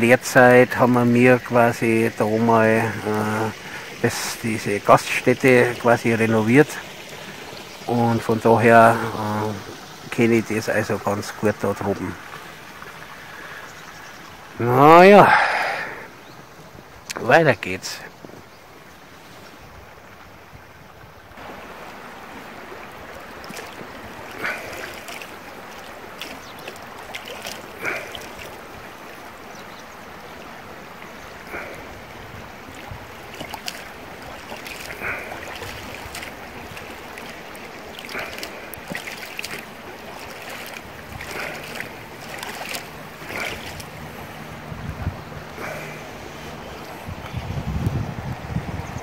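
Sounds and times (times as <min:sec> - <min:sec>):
water splashes: 0:00.0 - 0:48.7
river water rushing: 0:00.0 - 0:49.0.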